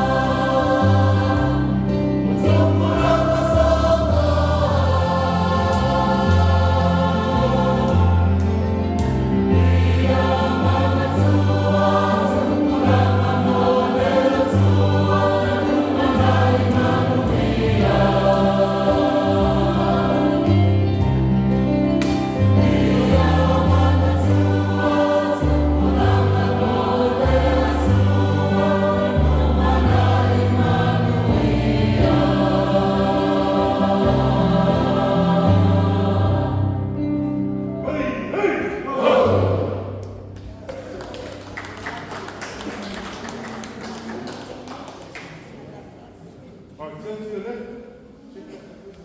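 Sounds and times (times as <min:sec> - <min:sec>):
choir singing: 0:00.0 - 0:40.4.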